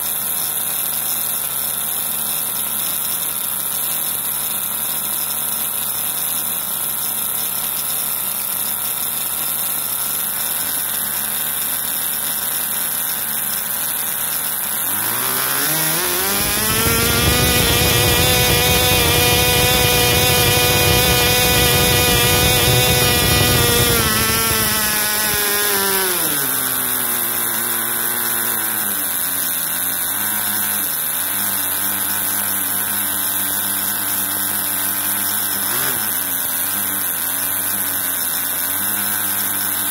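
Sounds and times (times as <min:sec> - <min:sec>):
model glow engine revving: 0:00.0 - 0:39.9.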